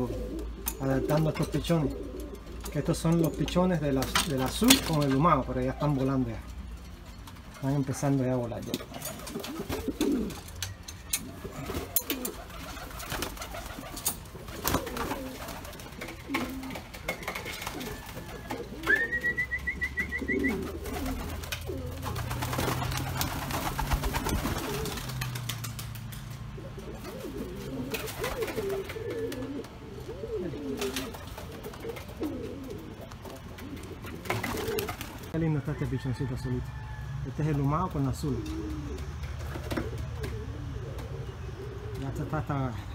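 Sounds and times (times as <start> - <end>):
pigeons cooing: 0.0 - 35.4, 37.0 - 42.9.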